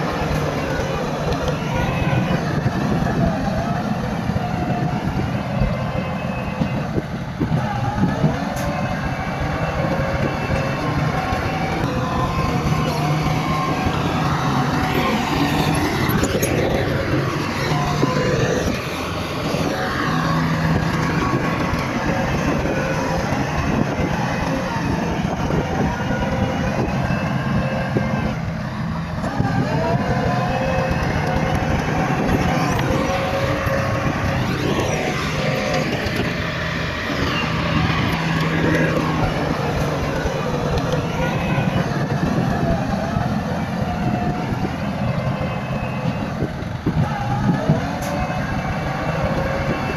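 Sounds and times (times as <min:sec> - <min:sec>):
bulldozer diesel engine running: 0:00.0 - 0:49.9
whining tones: 0:00.0 - 0:49.9.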